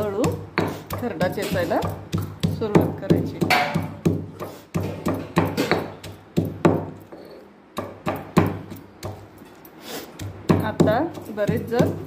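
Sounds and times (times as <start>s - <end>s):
stone pestle pounding in mortar: 0.0s - 12.0s.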